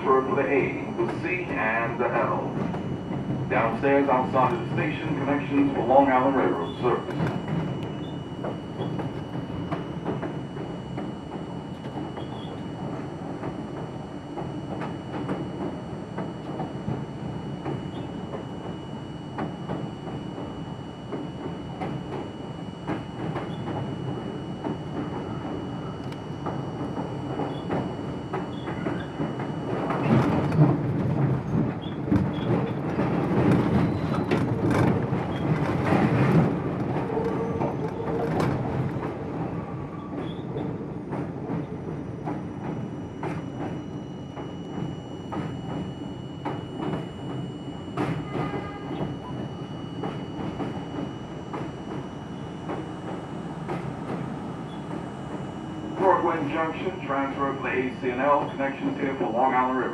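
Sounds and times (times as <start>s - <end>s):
subway car wheels clicking over rail joints: 0.0s - 59.9s.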